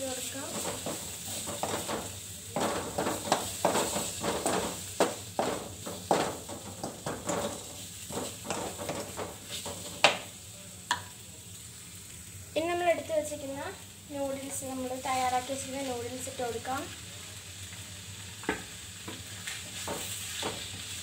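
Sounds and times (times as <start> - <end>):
light sizzle: 0.0 - 21.0.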